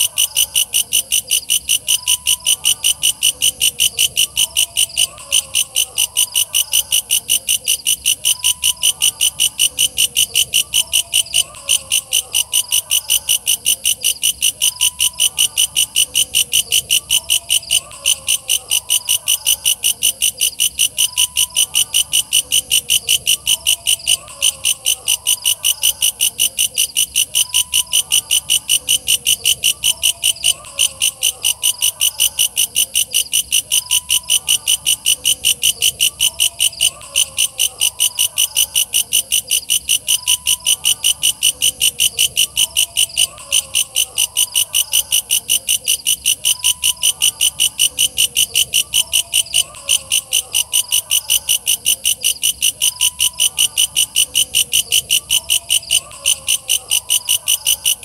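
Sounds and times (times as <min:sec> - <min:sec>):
fainter lower insect calls: 0:00.0 - 0:58.0.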